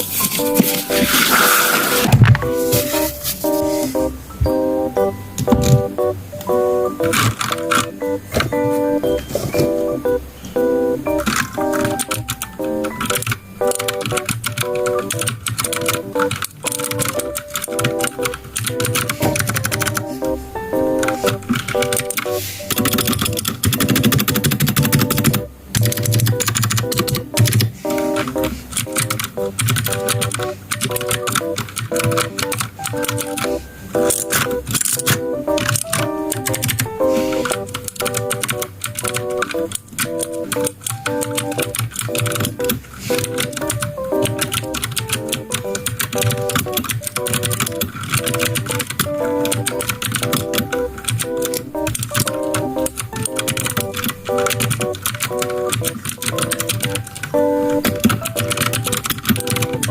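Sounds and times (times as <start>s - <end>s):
fast mechanical keyboard typing: 0.0s - 2.9s, 6.9s - 8.8s, 11.1s - 59.9s
background music: 0.0s - 59.9s.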